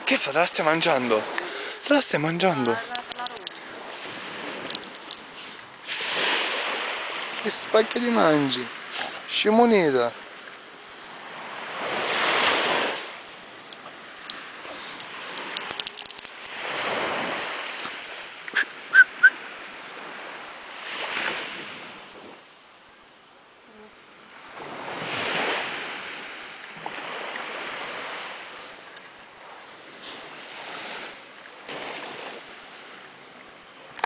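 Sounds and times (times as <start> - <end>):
sea surf washing onto beach: 0.0 - 22.9, 24.0 - 34.0.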